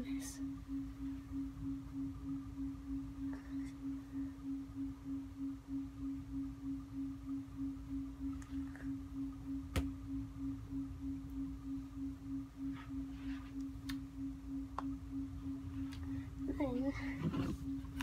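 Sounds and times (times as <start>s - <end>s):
faint rumble: 0.0s - 18.0s
pulsing low hum: 0.0s - 18.0s.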